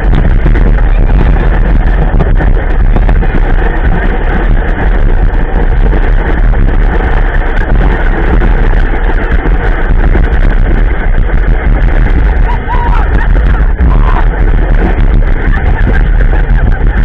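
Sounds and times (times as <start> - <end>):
low rumbling noise: 0.0 - 17.0
vehicle engine running: 0.0 - 17.0.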